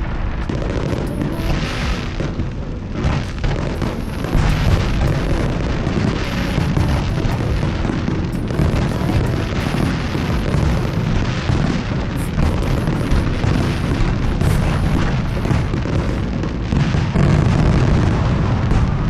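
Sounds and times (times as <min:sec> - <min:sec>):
fireworks booming: 0:00.0 - 0:19.0
sharp firework cracks: 0:00.0 - 0:19.0.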